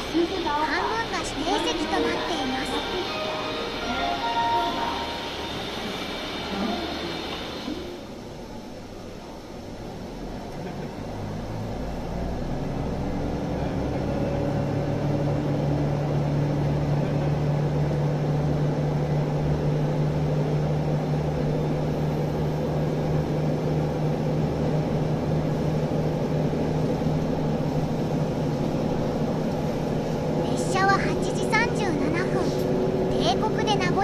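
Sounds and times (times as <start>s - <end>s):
diesel railcar engine droning: 0.0s - 34.0s.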